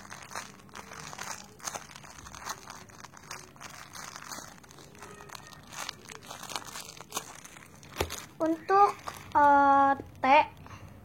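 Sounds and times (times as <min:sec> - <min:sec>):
squishy toy crinkling and rustling: 0:00.0 - 0:10.6.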